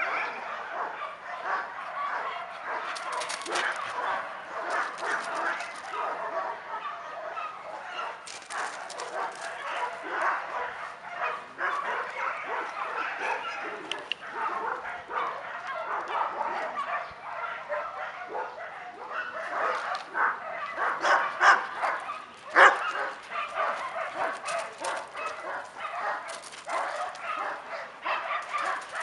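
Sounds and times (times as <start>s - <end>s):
dogs barking and yipping: 0.0s - 29.0s.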